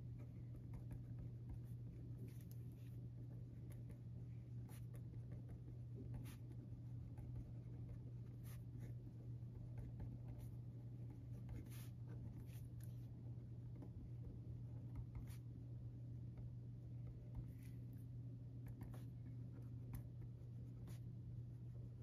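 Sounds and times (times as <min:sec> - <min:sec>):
pen scratching on paper: 0:00.1 - 0:15.5, 0:18.6 - 0:22.0.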